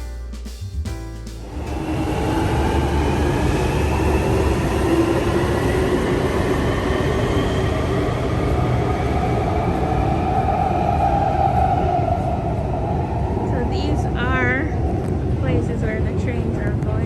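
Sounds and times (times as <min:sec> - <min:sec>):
train rumbling and hissing: 0:01.3 - 0:17.0.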